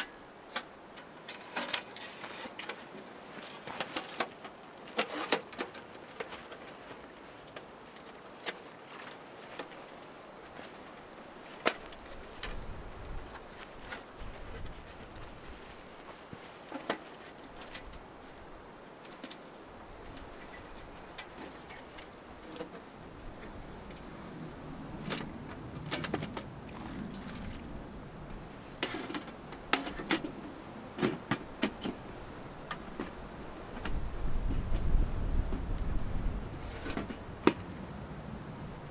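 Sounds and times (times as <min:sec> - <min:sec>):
camping kit clinking: 0:00.0 - 0:37.8.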